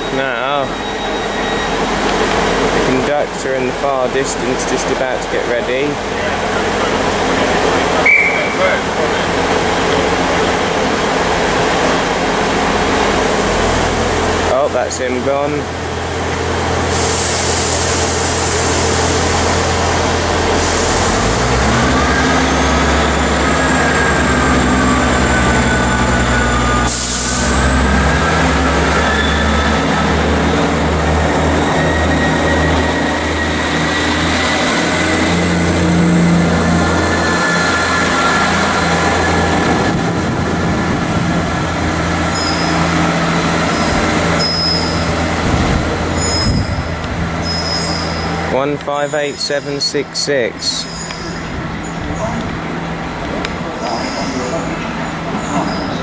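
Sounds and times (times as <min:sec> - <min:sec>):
diesel train engines: 0:00.0 - 0:56.0
train whine rising in pitch: 0:00.0 - 0:56.0.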